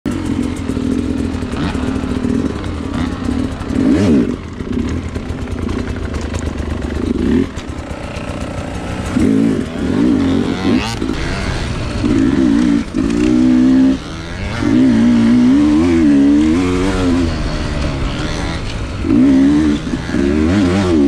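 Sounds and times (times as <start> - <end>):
two-stroke motorcycle engine revving: 0.1 - 21.0.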